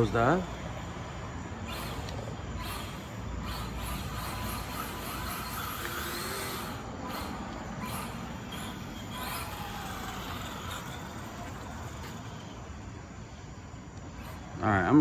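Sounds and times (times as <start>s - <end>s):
remote control car motor whine: 0.0s - 14.6s
steady rumble: 0.0s - 15.0s.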